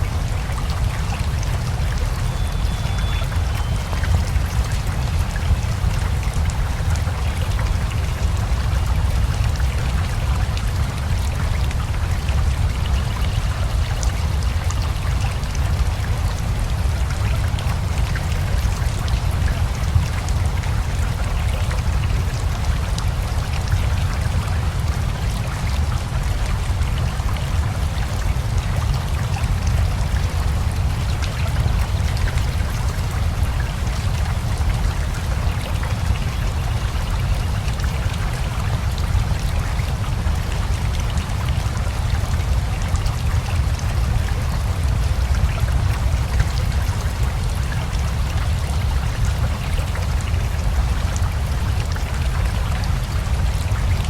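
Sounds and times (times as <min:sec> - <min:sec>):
flowing river: 0:00.0 - 0:54.0
scattered water drips: 0:00.0 - 0:54.0
steady rain: 0:00.0 - 0:54.0.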